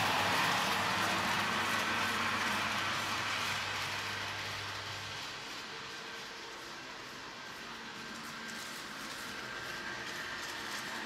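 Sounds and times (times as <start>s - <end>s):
model train rumbling on track: 0.0s - 11.0s.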